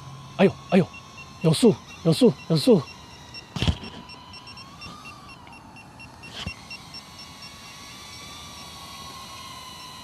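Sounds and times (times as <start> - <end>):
drone propellers whining: 0.0 - 10.0
fast high beeping: 0.4 - 8.7.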